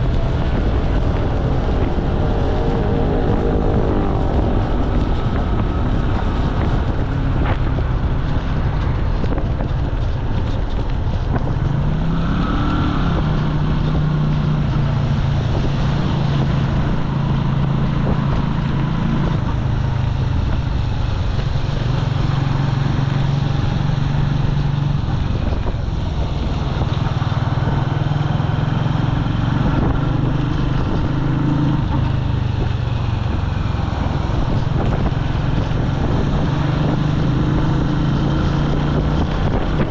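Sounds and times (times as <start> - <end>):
motorcycle engine running: 0.0 - 11.9, 13.1 - 39.9.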